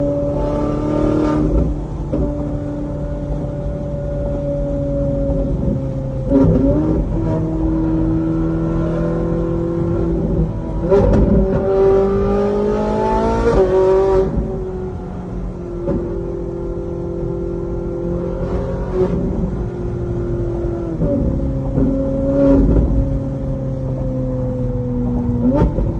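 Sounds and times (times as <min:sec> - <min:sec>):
car engine accelerating through gears: 0:00.0 - 0:25.9.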